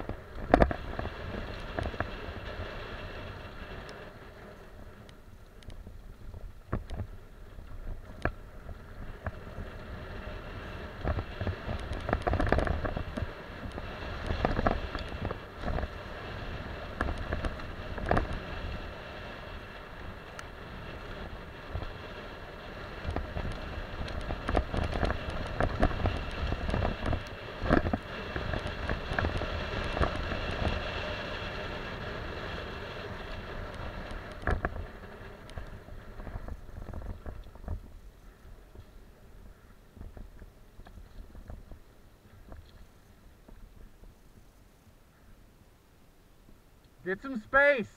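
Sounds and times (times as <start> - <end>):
bike rattling over bumps: 0.0 - 44.5
wind buffeting microphone: 0.0 - 44.6.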